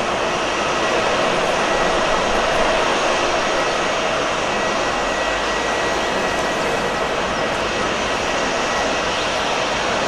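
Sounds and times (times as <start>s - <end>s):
high engine whine: 0.0s - 10.0s
jet engines rushing: 0.0s - 10.0s.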